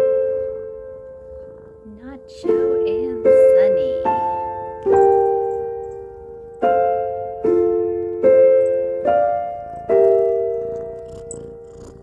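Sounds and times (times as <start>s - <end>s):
soft piano chords: 0.0s - 12.0s.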